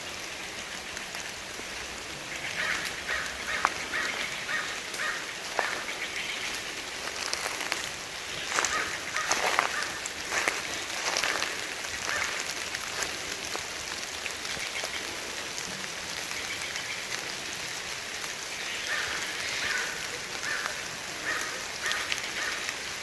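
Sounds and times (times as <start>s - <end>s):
drips pattering on leaves: 0.0s - 23.0s
rain hissing: 0.0s - 23.0s.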